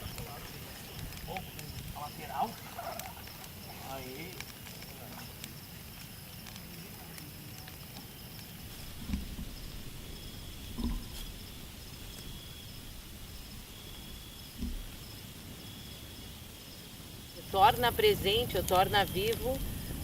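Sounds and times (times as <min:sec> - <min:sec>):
crickets chirping: 0:00.0 - 0:20.0
outdoor background noise: 0:00.0 - 0:20.0.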